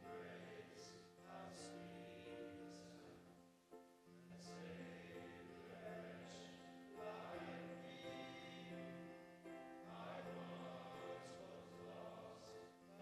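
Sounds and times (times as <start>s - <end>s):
voices singing slow song: 0.0s - 13.0s.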